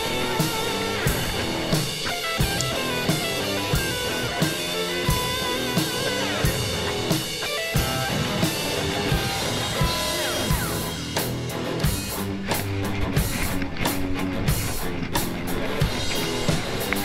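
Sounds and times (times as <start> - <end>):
music with guitar and drums: 0.0 - 17.0.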